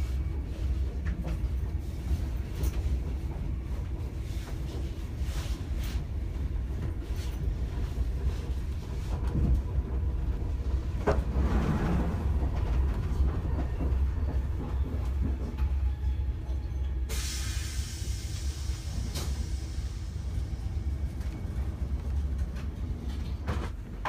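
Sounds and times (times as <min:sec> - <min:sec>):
train rumbling inside carriage: 0:00.0 - 0:24.0.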